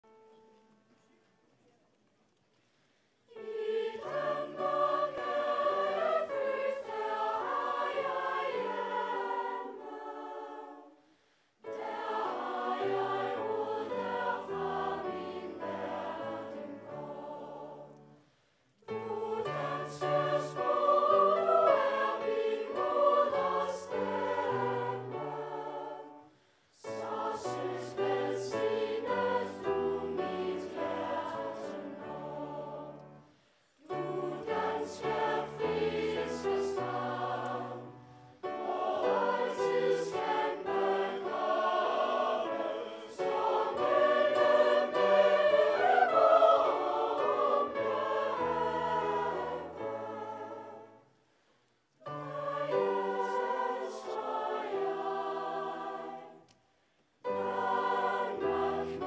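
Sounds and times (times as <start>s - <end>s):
children's and youth choir singing: 3.3s - 18.2s, 18.8s - 51.2s, 52.0s - 56.6s, 57.2s - 59.0s.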